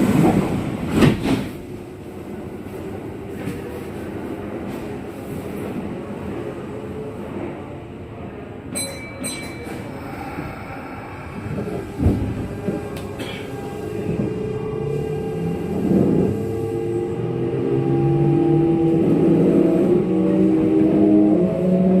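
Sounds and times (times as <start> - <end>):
train hum: 0.0 - 22.0
train rumbling: 0.0 - 22.0.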